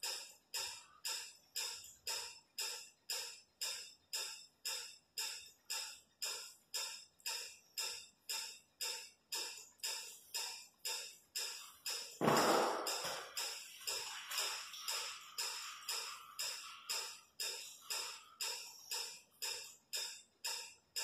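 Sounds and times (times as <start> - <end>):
machine-even ticking beat: 0.0 - 21.0.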